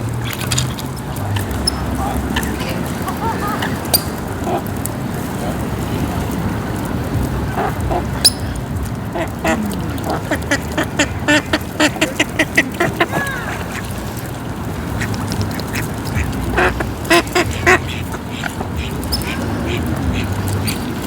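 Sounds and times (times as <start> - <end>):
low background noise: 0.0 - 21.0
ducks quacking: 0.1 - 21.0.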